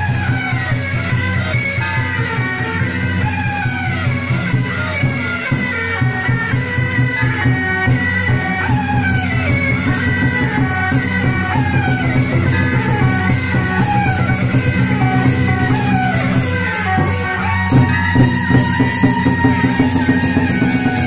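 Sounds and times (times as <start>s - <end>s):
cymbal strokes: 0.0s - 21.0s
drum band music: 0.0s - 21.0s
drum beat: 0.0s - 21.0s.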